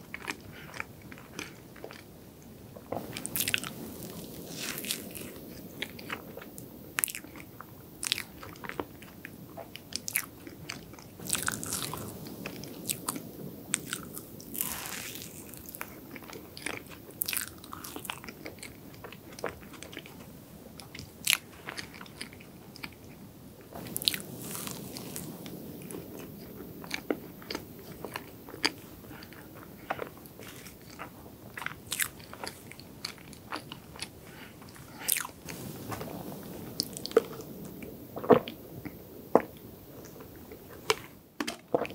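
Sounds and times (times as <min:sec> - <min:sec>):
person chewing soft food: 0:00.0 - 0:02.2, 0:02.8 - 0:23.2, 0:23.8 - 0:41.9.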